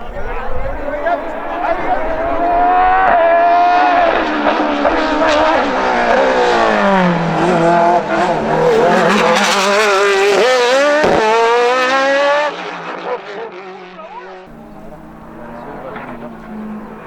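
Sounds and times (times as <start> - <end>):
race car engine revving: 0.4 - 17.0.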